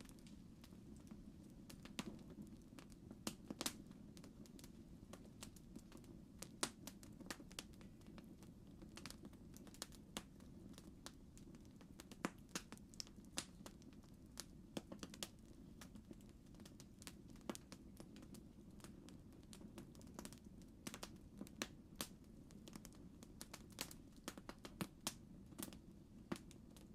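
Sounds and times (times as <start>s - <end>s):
campfire wood crackling and popping: 0.0s - 26.9s.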